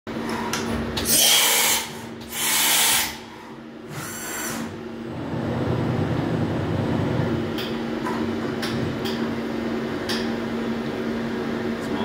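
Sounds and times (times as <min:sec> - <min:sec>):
machining center humming: 0:00.1 - 0:12.0.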